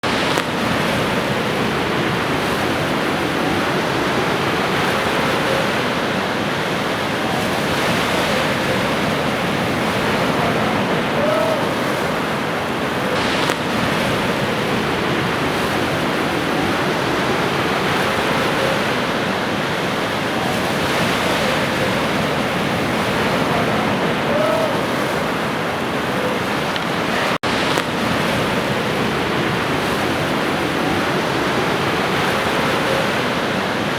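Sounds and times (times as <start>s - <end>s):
ocean surf on shore: 0.0s - 33.9s.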